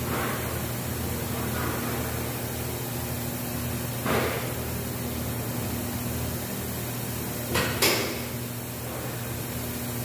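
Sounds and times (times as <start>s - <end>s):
crane electric hum and hiss: 0.0s - 10.0s.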